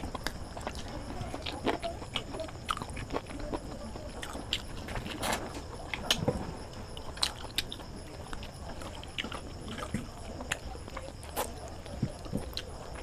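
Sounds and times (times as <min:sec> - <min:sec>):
chewing and lip-smacking: 0:00.0 - 0:06.3, 0:06.9 - 0:13.0.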